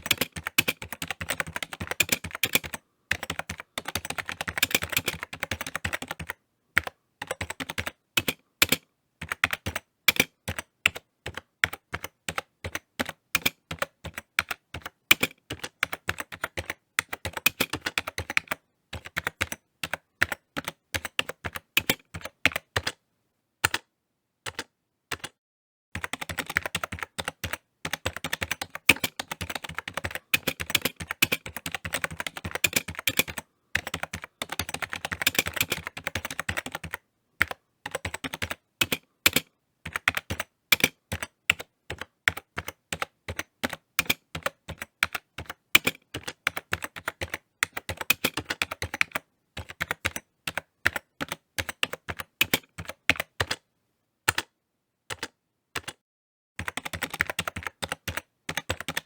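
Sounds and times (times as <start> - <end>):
typing on computer keyboard: 0.0 - 23.0, 23.6 - 23.9, 24.5 - 25.4, 26.0 - 53.6, 54.3 - 54.5, 55.1 - 56.0, 56.6 - 59.0.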